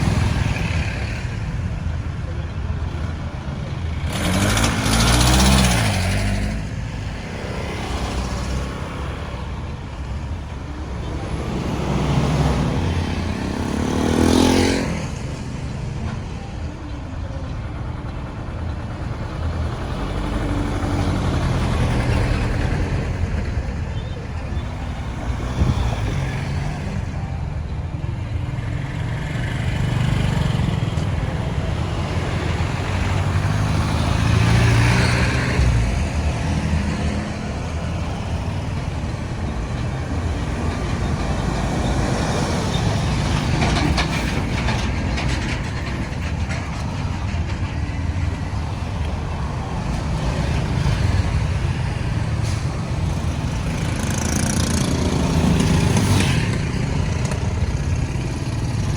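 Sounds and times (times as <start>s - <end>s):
passing vehicle engines: 0.0s - 58.9s.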